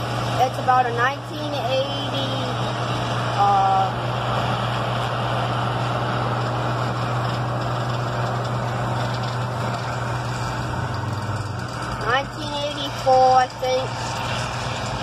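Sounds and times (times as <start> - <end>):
engine drone inside vehicle cabin: 0.0 - 15.0.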